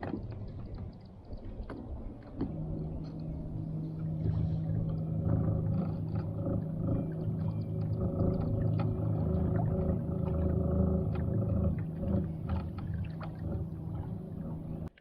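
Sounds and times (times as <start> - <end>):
water and hull noise: 0.0 - 15.0
electric motor humming: 2.3 - 14.9.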